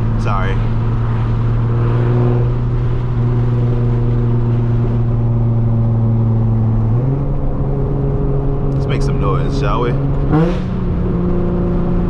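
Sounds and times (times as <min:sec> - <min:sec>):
car engine cruising from inside cabin: 0:00.0 - 0:12.0.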